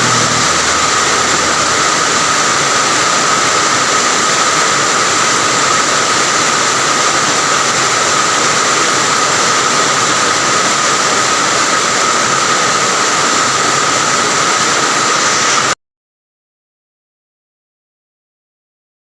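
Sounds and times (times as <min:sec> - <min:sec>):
rain falling: 0:00.0 - 0:15.8.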